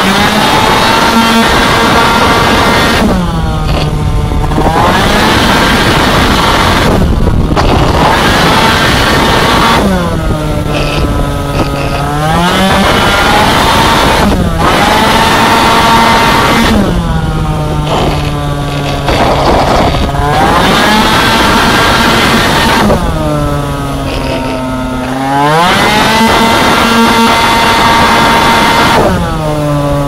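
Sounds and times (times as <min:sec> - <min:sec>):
two-stroke scooter engine revving: 0:00.0 - 0:30.0.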